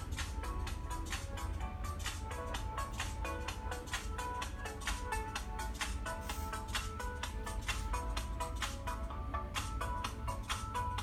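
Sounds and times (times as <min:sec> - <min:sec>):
upbeat music with plinking melody: 0:00.0 - 0:11.0.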